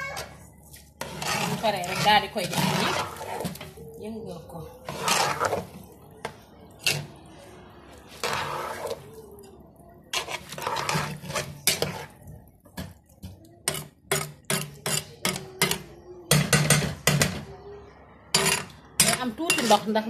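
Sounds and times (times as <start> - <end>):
metal spoon scraping a pot: 0.0 - 7.4, 8.0 - 13.0, 13.6 - 17.4, 18.3 - 20.0.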